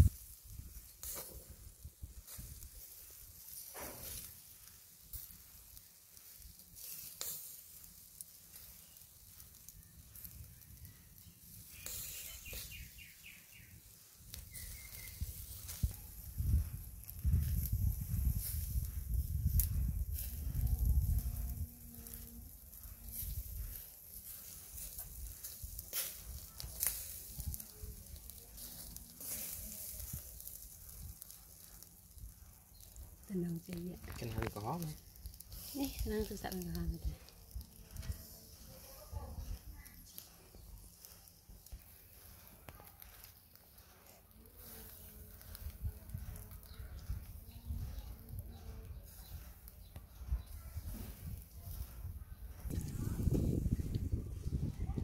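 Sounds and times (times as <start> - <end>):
sharp crackles: 0.0 - 55.0
squid sizzling on a grill: 0.0 - 55.0.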